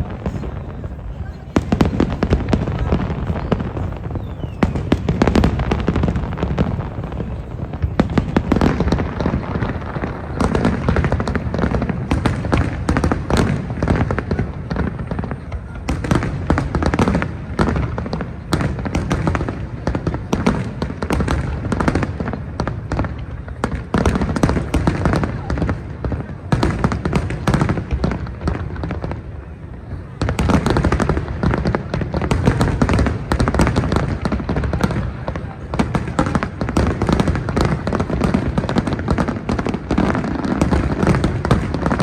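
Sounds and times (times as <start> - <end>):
fireworks booming and crackling: 0.0 - 42.0.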